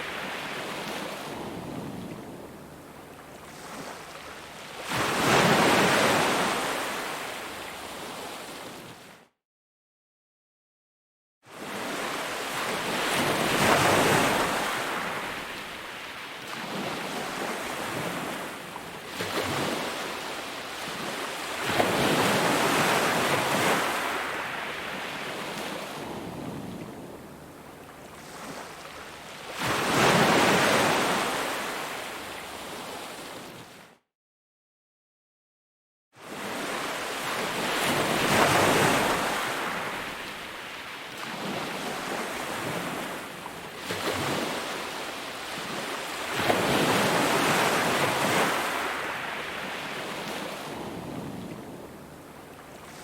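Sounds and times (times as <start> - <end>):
ocean waves breaking: 0.0 - 8.6, 11.6 - 33.6, 36.3 - 53.0.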